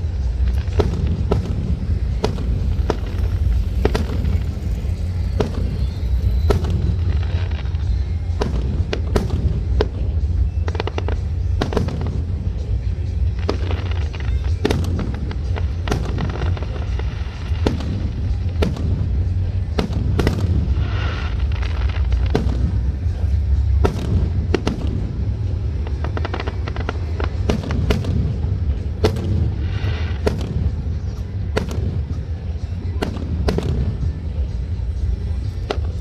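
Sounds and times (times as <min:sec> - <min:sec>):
firework shells bursting: 0:00.0 - 0:36.0
low rumble: 0:00.0 - 0:36.0.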